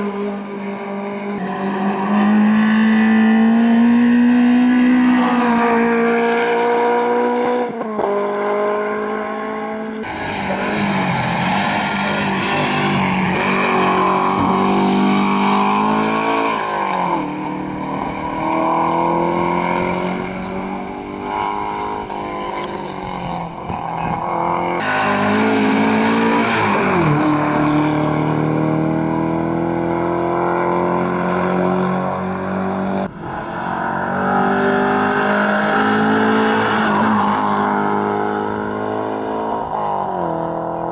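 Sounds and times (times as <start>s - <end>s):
rally car engines at full throttle: 0.0s - 40.9s.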